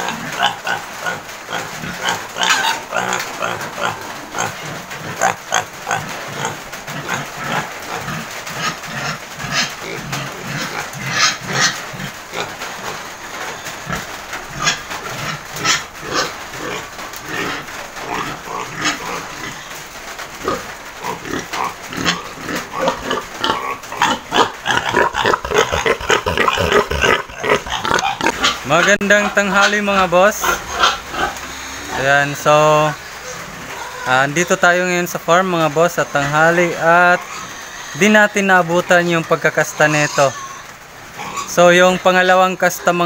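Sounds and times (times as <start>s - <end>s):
pigs grunting: 0.0s - 43.0s.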